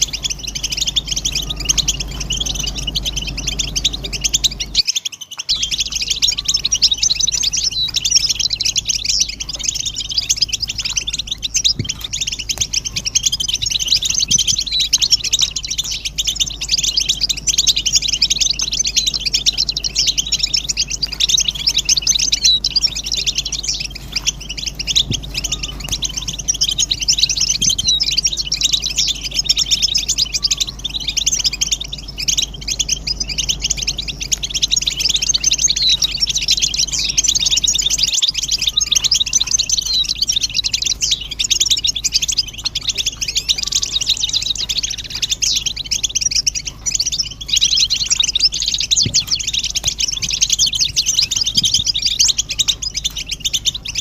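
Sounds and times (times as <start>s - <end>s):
goldfinches twittering and singing: 0.0s - 54.0s.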